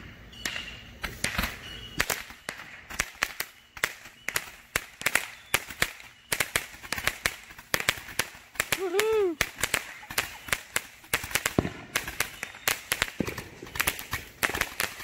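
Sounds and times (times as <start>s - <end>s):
firework crackling pops: 0.0s - 15.0s.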